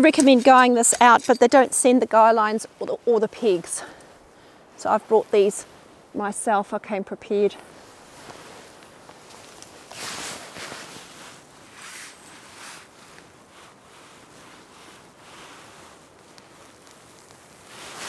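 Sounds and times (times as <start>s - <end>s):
rustling and handling noises: 0.0s - 5.6s, 7.8s - 18.0s
faint outdoor hiss: 0.0s - 18.0s.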